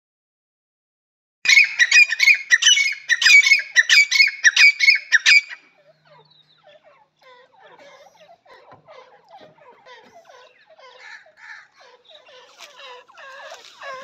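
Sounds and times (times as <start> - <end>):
francolin calling: 1.5 - 8.8, 9.6 - 14.0.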